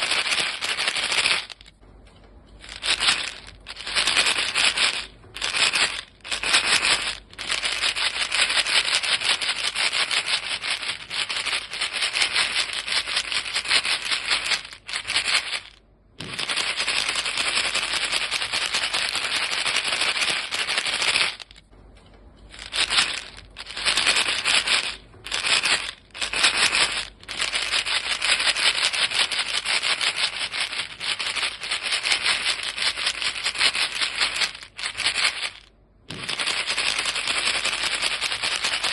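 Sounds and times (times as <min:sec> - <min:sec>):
gum pellets rattling in box: 0:00.0 - 0:01.8, 0:02.6 - 0:21.7, 0:22.5 - 0:38.9.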